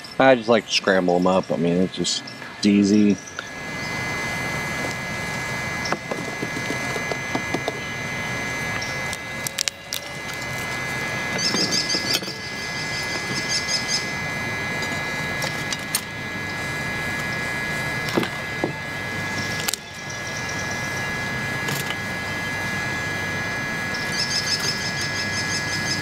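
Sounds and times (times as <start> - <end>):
wood fire crackling: 3.4 - 25.2.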